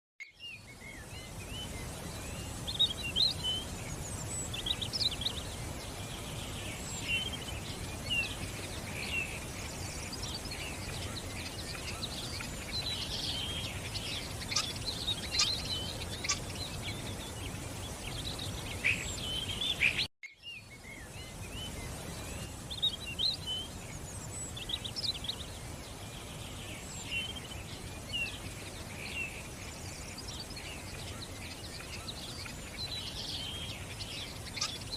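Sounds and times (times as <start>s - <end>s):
outdoor ambience hiss: 0.2s - 34.9s
songbirds chirping and singing: 0.2s - 34.9s.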